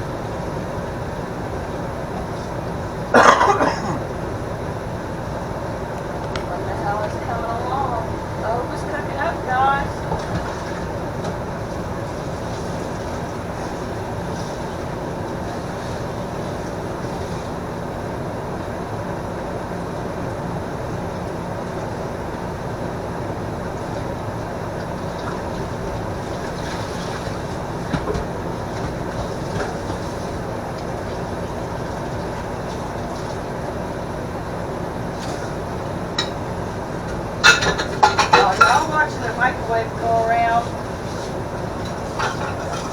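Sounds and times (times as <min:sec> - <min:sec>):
microwave oven humming: 0:00.0 - 0:42.9.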